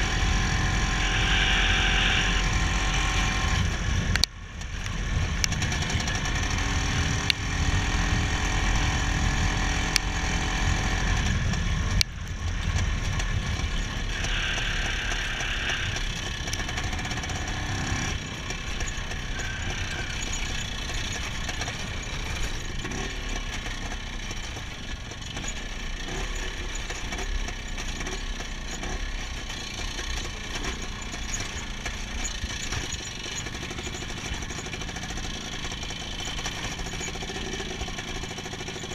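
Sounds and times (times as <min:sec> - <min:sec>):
two-stroke motorcycle engine running: 0:00.0 - 0:38.9.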